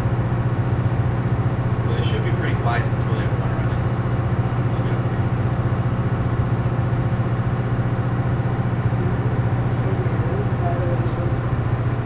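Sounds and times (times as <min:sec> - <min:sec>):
diesel generator engine droning: 0:00.0 - 0:12.0.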